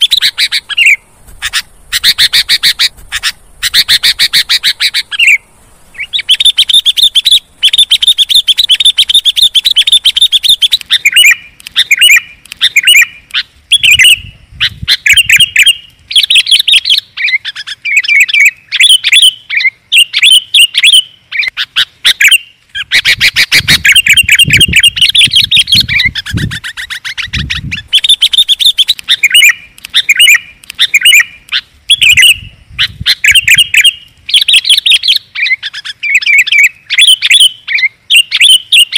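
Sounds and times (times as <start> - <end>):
bird chattering chirps: 0.0 - 38.9.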